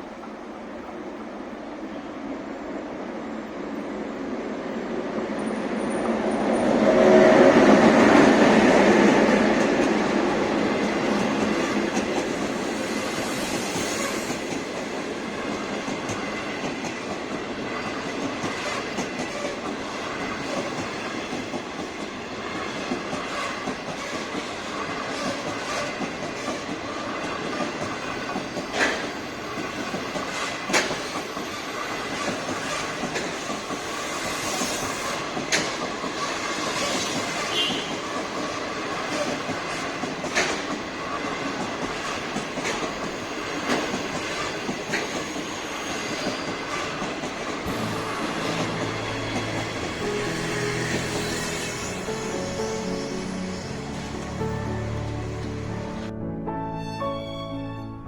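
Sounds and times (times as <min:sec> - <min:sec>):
train rolling rumble: 0:04.2 - 0:56.1
train wheels clacking over rails: 0:05.5 - 0:56.0.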